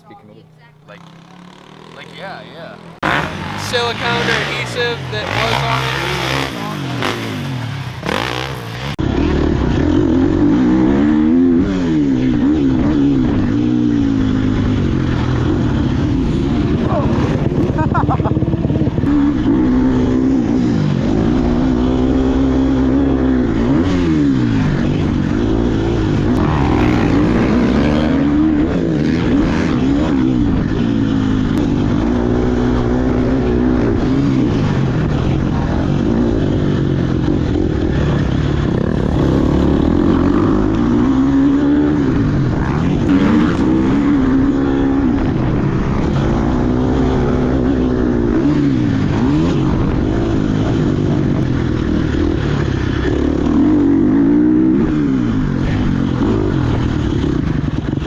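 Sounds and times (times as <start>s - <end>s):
two-stroke dirt bike engine revving: 0.0s - 58.0s.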